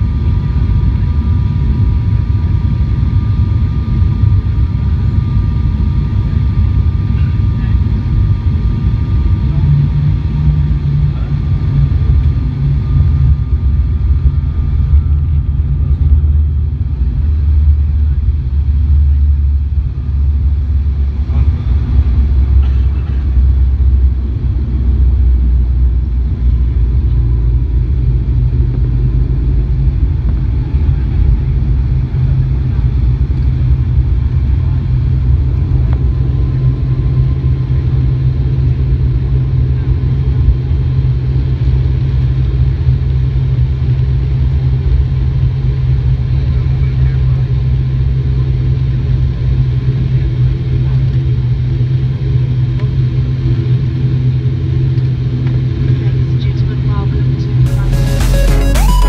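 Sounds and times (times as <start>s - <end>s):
faint steady whine: 0.0s - 59.0s
propeller engines droning: 0.0s - 59.0s.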